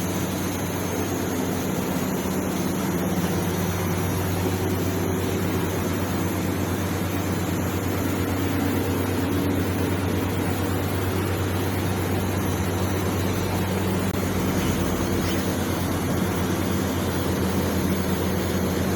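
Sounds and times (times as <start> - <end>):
welding arc buzzing: 0.0 - 18.9.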